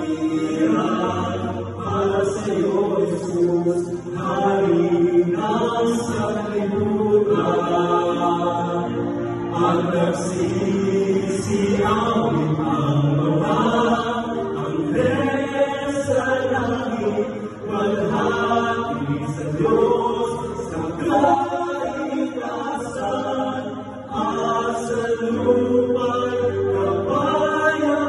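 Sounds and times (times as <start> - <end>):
male vocal quartet singing: 0.0 - 28.0.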